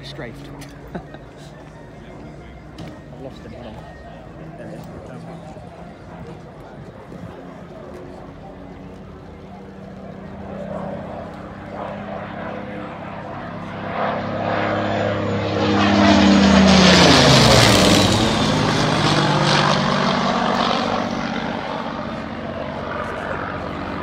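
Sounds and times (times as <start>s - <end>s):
propeller plane engine passing overhead: 0.0s - 24.0s.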